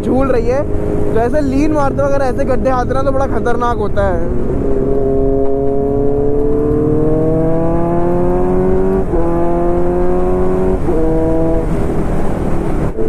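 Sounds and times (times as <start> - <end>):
motorcycle engine accelerating: 0.0 - 13.0
wind rush on microphone: 0.0 - 13.0.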